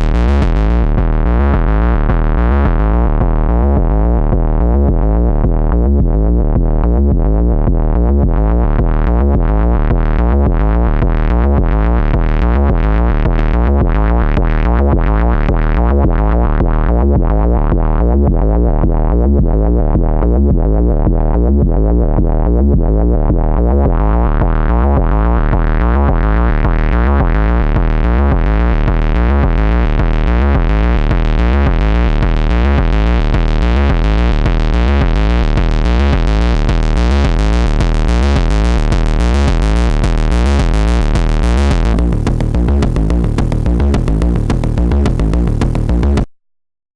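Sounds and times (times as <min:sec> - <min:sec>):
distorted synth kick and bass loop: 0:00.0 - 0:46.3.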